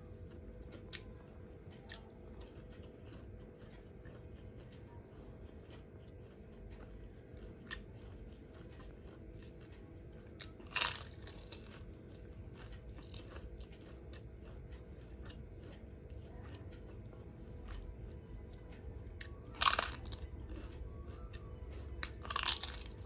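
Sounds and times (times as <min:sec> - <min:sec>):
chewing with crunches: 0:00.0 - 0:23.0.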